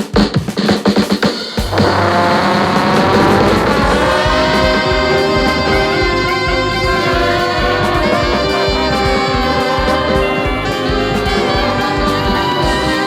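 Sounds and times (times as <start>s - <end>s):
background music with steady beat: 1.6s - 13.0s.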